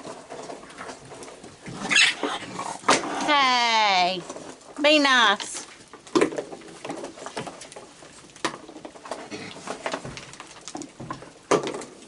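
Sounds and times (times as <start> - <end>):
raccoons crunching food: 0.0 - 12.0.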